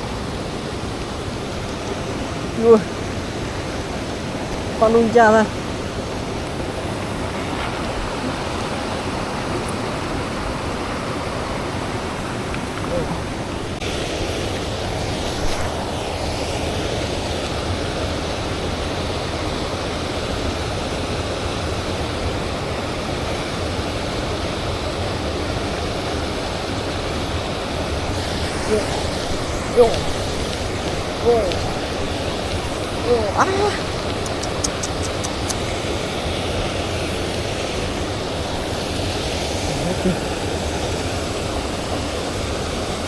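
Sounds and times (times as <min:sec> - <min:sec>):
river water rushing: 0:00.0 - 0:43.0.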